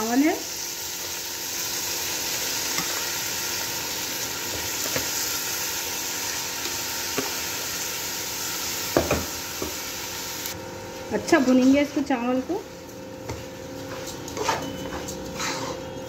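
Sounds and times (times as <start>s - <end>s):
rice sizzling in hot oil: 0.0s - 14.5s.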